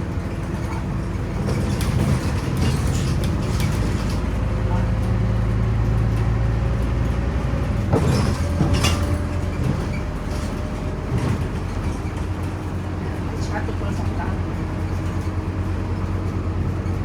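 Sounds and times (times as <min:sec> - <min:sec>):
bus engine hum: 0:00.0 - 0:17.0
road and body rattle: 0:00.0 - 0:17.0.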